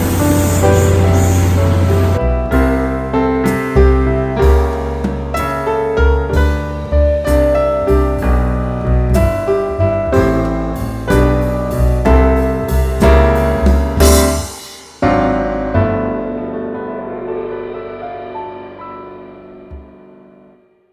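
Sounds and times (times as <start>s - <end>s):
piano-led music with strong bass: 0.0s - 20.9s.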